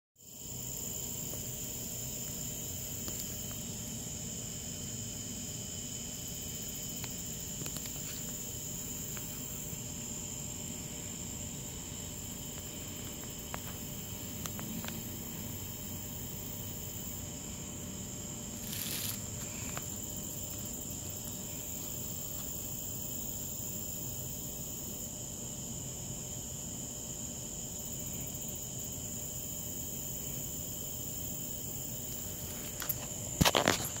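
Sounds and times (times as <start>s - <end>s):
insects trilling: 0.2s - 34.0s.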